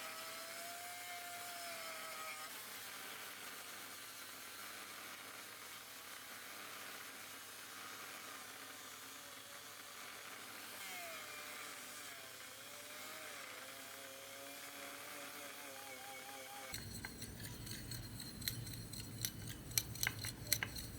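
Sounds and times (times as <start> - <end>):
small power tool whirring: 0.0 - 20.9.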